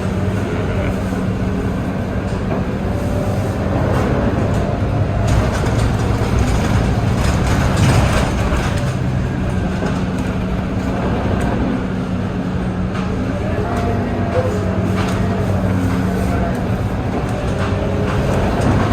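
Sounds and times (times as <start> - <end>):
bus diesel engine droning: 0.0 - 18.9
road noise: 0.0 - 18.9.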